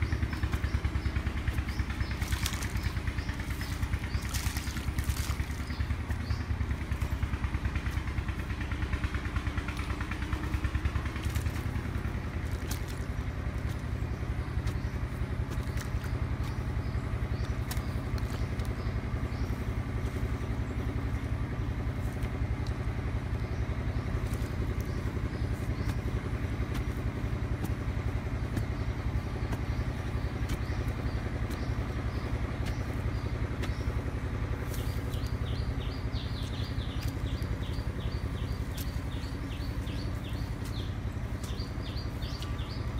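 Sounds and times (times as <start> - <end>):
bird chirping rapidly: 0.0 - 42.9
small engine running: 0.0 - 42.9.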